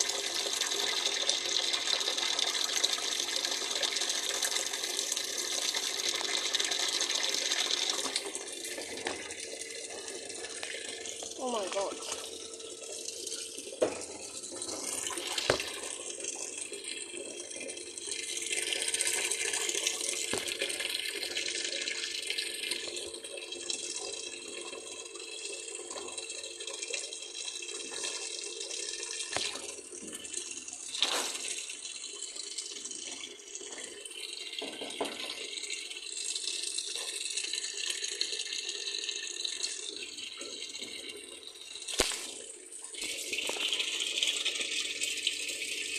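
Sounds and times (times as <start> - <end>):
water running from a tap: 0.0 - 45.9.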